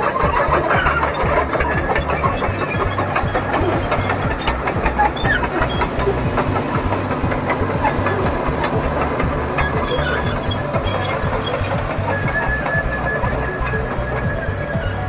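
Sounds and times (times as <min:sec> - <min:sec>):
bulldozer diesel engine: 0:00.0 - 0:15.0
sharp clicks and knocks: 0:00.0 - 0:15.0
steel tracks clattering: 0:00.0 - 0:15.0.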